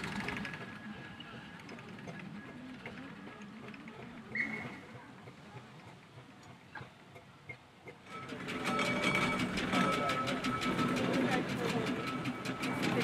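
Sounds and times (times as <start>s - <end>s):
steam roller engine clicking: 0.0s - 13.0s
steam traction engines clattering: 0.0s - 13.0s.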